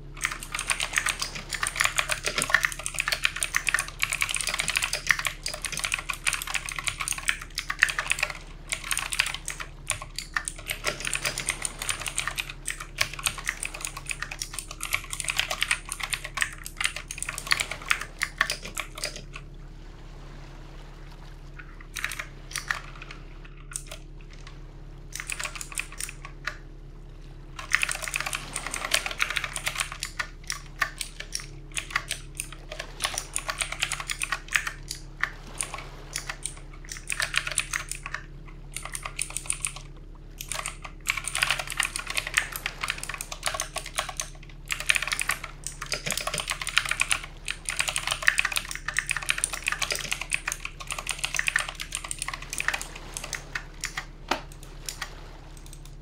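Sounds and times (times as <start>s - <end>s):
fast typing on keyboard: 0.2s - 19.4s, 22.0s - 23.1s, 25.1s - 26.3s, 27.6s - 54.0s.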